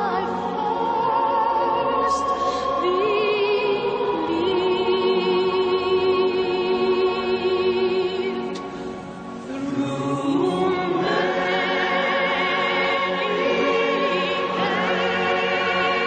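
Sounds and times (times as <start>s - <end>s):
choir singing long held notes: 0.0s - 16.0s.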